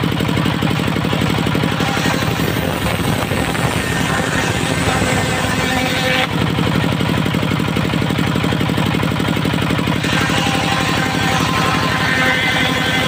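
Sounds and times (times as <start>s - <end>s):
diesel engine chugging: 0.0s - 13.0s
saw blade cutting wood: 0.0s - 13.0s.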